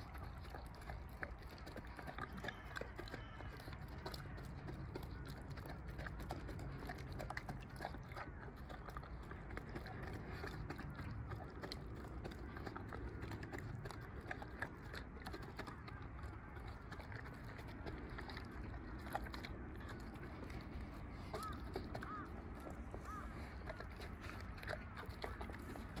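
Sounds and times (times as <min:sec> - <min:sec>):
dog eating from metal plate: 0:00.0 - 0:26.0.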